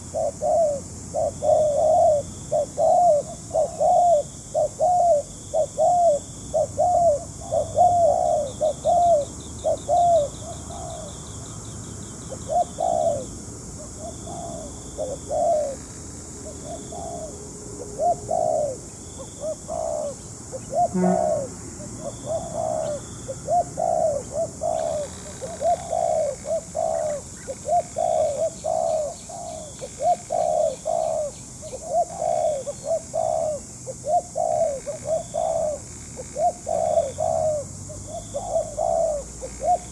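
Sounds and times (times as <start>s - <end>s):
doves cooing: 0.0s - 11.4s, 12.3s - 39.9s.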